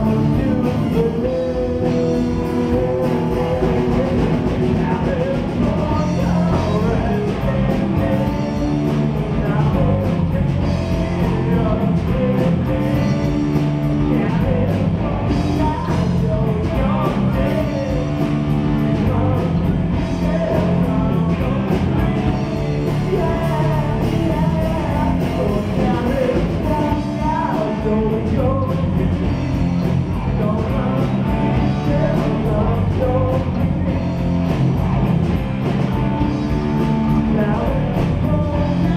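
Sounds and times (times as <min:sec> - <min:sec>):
person singing: 0:00.0 - 0:34.1, 0:36.2 - 0:38.9
drum kit: 0:00.0 - 0:38.9
electric guitars: 0:00.0 - 0:38.9.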